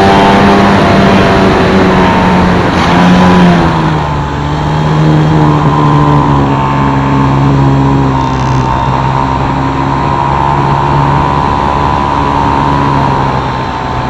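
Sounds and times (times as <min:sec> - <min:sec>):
electric motor and propeller whine: 0:00.0 - 0:14.0.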